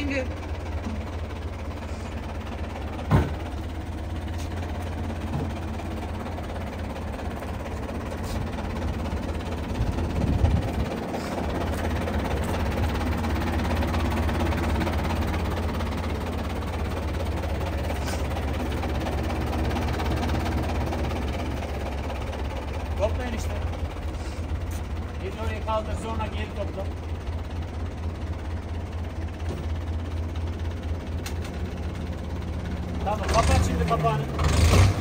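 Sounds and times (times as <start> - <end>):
tractor engine idling: 0.0 - 35.0.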